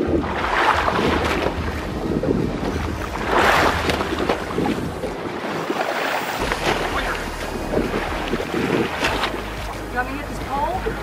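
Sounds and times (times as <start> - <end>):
water sloshing along boat hull: 0.0 - 11.0
wind on microphone: 0.0 - 11.0.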